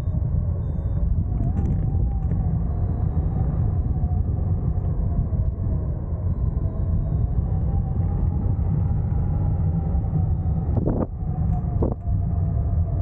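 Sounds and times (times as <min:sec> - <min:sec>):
faint wavering tone: 0:00.0 - 0:12.4
wind buffeting microphone: 0:00.1 - 0:13.0.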